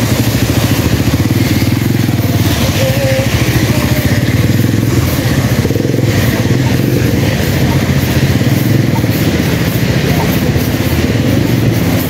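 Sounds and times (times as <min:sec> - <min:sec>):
vehicles rumbling on wet street: 0:00.0 - 0:12.0.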